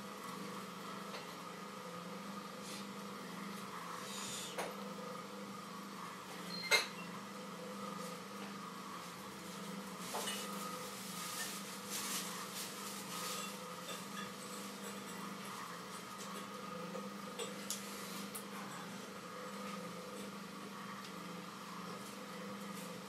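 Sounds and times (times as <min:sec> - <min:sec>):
potter's wheel humming: 0:00.0 - 0:23.0.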